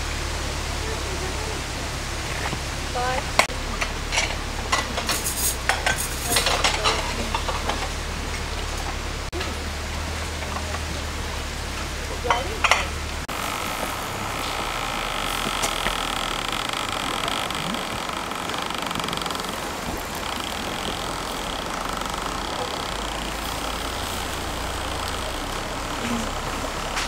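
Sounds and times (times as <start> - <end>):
steady hiss: 0.0 - 27.0
water splashing on waterwheel: 0.0 - 27.0.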